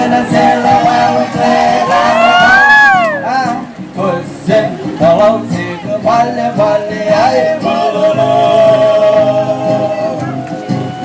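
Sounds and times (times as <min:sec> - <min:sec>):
people singing live: 0:00.0 - 0:11.0
rhythmic backing music: 0:00.0 - 0:11.0.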